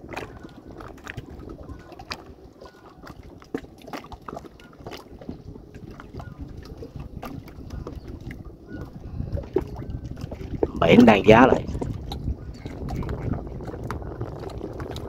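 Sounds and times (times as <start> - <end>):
water splashing around boat: 0.0 - 15.0.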